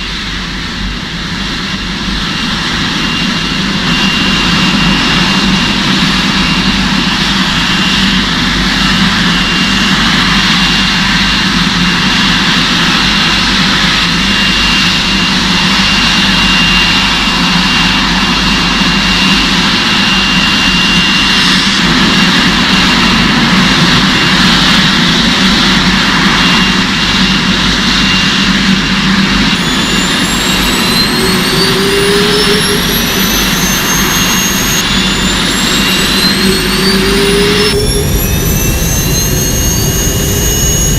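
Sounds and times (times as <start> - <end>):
jet engine whine rising: 0.0 - 40.9
jet engines roaring: 0.0 - 40.9.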